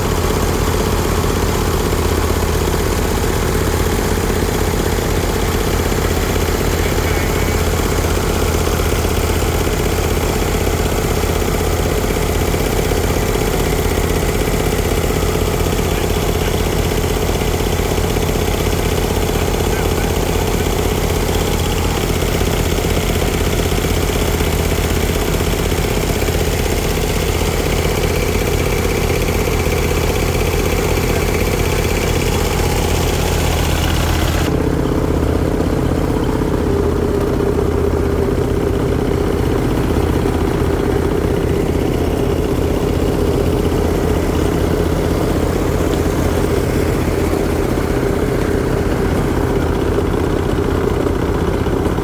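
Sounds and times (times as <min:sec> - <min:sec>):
diesel tractor engine idling: 0:00.0 - 0:52.0.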